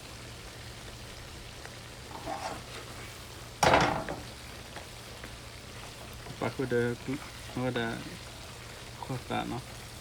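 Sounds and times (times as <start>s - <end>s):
food frying in a pan: 0.0s - 10.0s.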